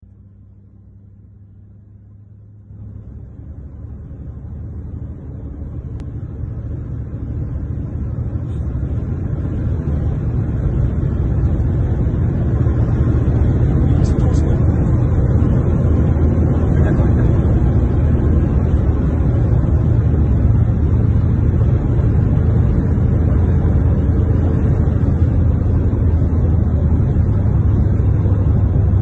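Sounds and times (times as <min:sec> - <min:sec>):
low rumbling vehicle: 0:00.0 - 0:29.0.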